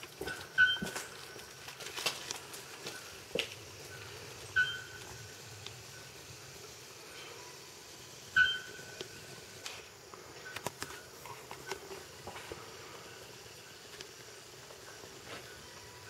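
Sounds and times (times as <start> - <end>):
faint forest ambience: 0.0 - 16.0.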